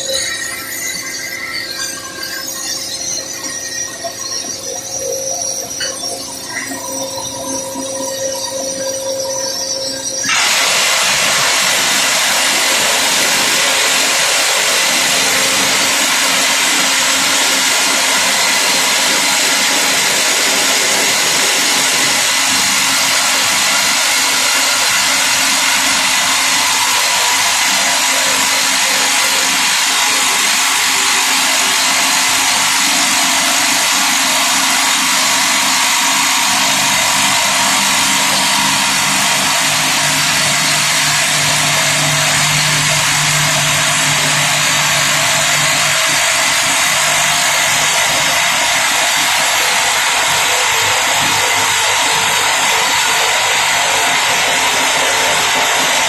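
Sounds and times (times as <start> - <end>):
drill rig humming: 5.7 - 56.0.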